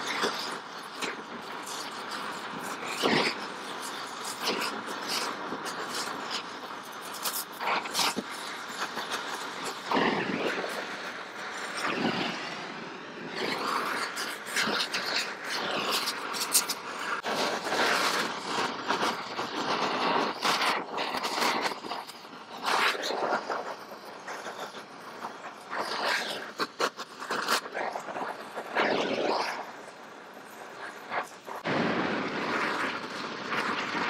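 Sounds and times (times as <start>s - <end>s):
welding torch flame hissing: 0.0s - 34.0s.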